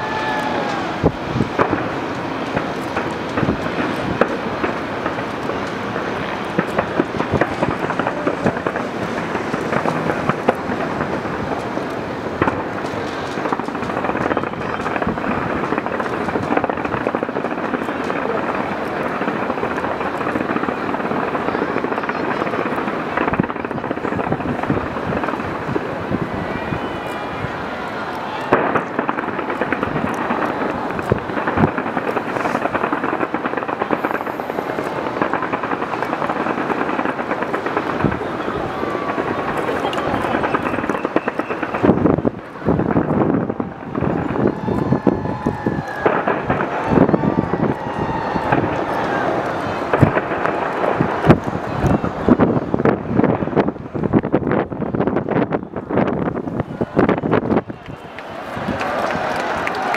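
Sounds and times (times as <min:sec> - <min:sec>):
rumble of fireworks bursting: 0:00.0 - 0:59.9
sharp firework cracks: 0:00.0 - 0:59.9.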